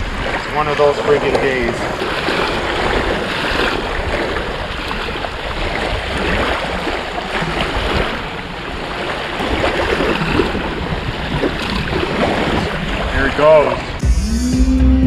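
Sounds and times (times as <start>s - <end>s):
small waves washing ashore: 0.0s - 14.0s
wind rushing over microphone: 0.0s - 14.0s.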